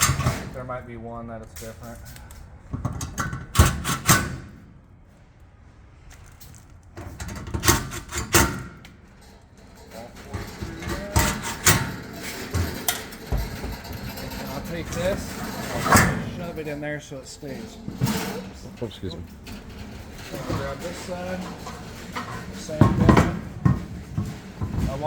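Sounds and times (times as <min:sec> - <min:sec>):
grill parts knocking and clattering: 0:00.0 - 0:00.6, 0:02.7 - 0:04.6, 0:07.0 - 0:25.0.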